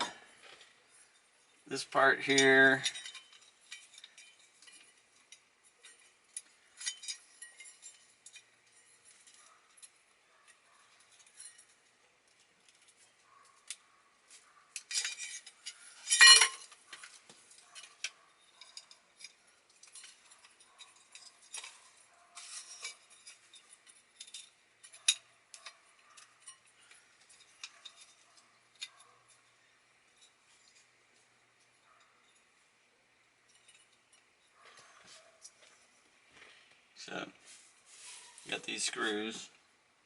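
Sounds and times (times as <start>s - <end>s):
small metal parts clinking: 0.0s - 13.9s, 14.5s - 32.6s, 33.2s - 36.0s.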